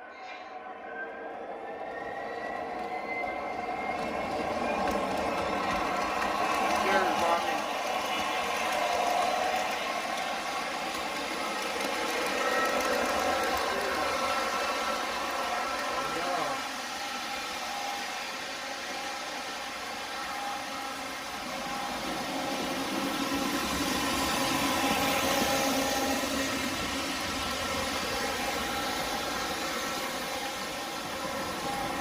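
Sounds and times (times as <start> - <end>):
model train motor and wheel noise: 1.8 - 32.0
model train diesel engine sound: 2.0 - 32.0.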